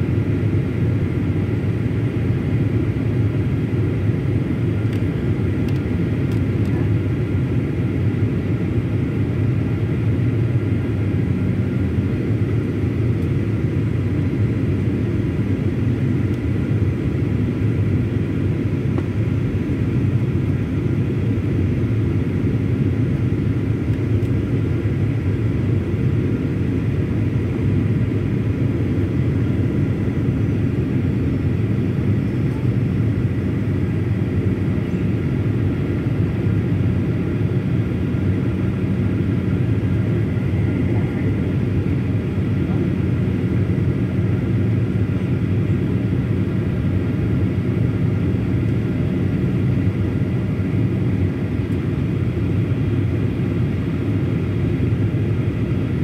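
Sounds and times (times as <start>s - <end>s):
faint steady whine: 0.0s - 56.0s
jet engine cabin rumble: 0.0s - 56.0s.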